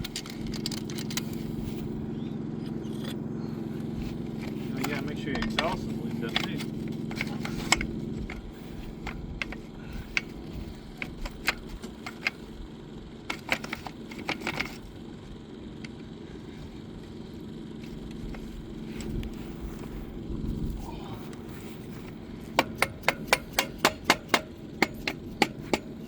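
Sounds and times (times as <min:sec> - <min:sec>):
light clicks and metallic rattles: 0:00.0 - 0:26.0
low engine hum: 0:00.0 - 0:26.0.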